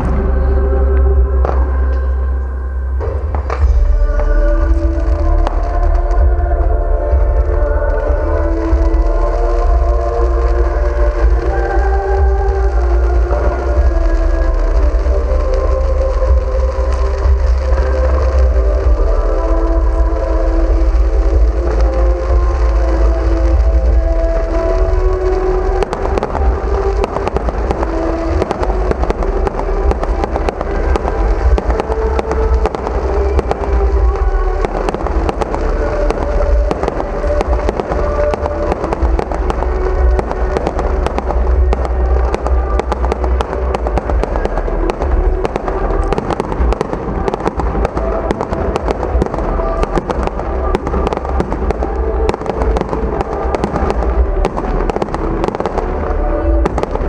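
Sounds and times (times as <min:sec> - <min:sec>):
deep booming: 0:00.0 - 0:57.0
fireworks bangs and crackles: 0:00.0 - 0:57.0.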